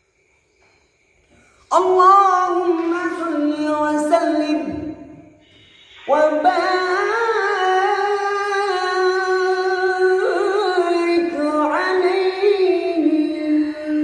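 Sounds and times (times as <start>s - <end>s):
solo voice singing: 1.7s - 5.2s, 6.1s - 14.0s.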